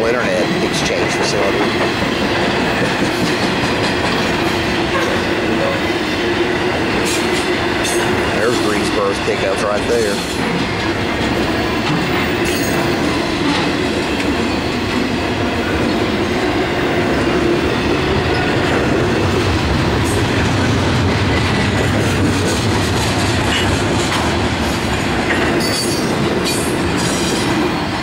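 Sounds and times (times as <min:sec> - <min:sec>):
freight train cars rolling past: 0:00.0 - 0:28.0
steel wheels clattering on rail joints: 0:00.0 - 0:28.0.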